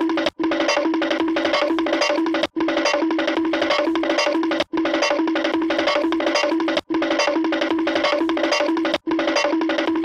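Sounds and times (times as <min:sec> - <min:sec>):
rapid wood-block taps: 0:00.0 - 0:10.0.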